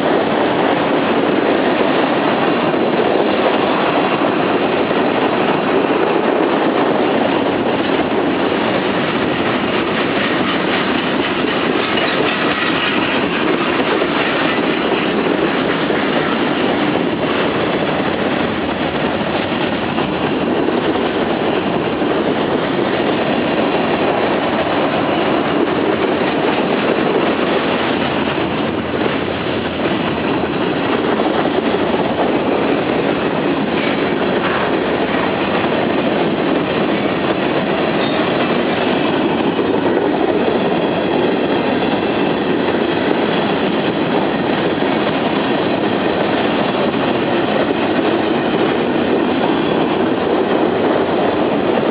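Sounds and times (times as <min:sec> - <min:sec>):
clickety-clack at rail joints: 0:00.0 - 0:51.9
freight train cars rolling: 0:00.0 - 0:51.9.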